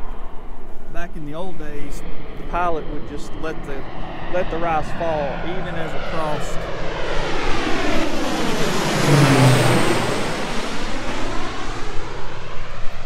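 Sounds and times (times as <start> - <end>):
airplane flying low overhead: 0.0 - 13.0.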